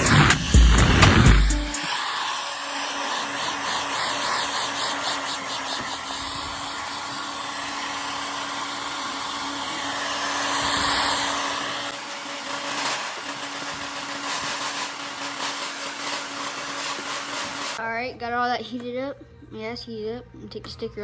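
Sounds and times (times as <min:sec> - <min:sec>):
hot-air blower running: 0:00.0 - 0:17.8.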